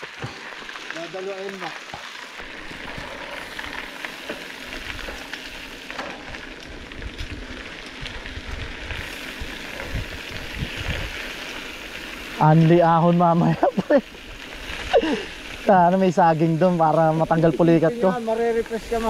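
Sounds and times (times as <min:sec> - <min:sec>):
bike tyres crackling hiss: 0:00.0 - 0:19.0.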